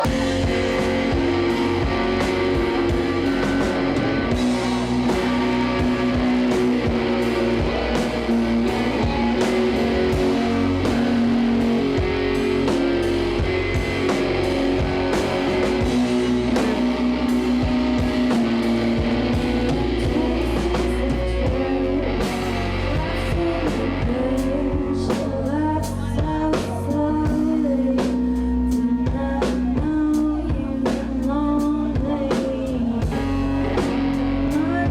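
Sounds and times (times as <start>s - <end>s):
drum kit: 0.0s - 34.9s
electric guitar: 0.0s - 34.9s
live rock band playing: 0.0s - 34.9s.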